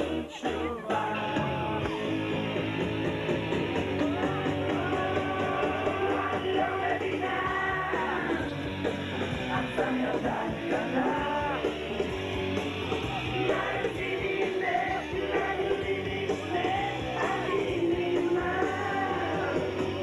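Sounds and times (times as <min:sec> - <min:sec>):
dance music with singing: 0:00.0 - 0:20.0.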